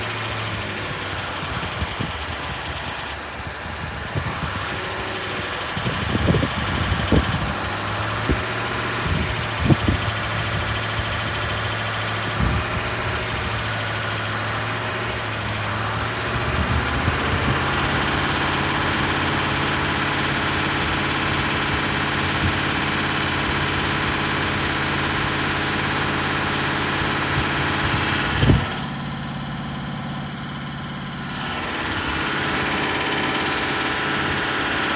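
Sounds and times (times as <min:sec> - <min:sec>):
diesel engine idling: 0:00.0 - 0:34.9
engine knocking: 0:00.0 - 0:34.9.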